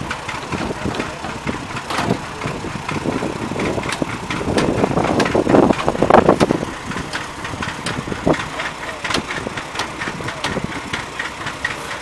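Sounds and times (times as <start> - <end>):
engine idling with knocks: 0.0 - 12.0.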